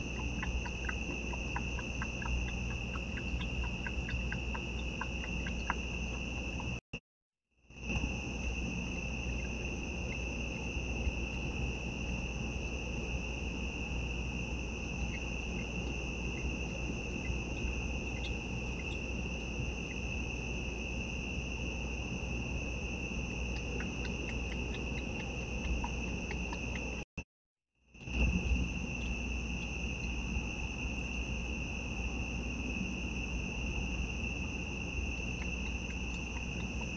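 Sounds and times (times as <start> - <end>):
crickets trilling: 0.0 - 6.9, 7.7 - 27.1, 27.9 - 36.9.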